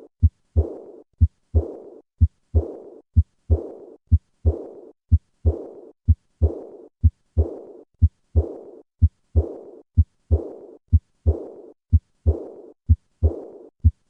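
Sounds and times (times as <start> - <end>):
heartbeat through stethoscope: 0.0 - 14.0
soft blowing heart murmur: 0.2 - 14.0.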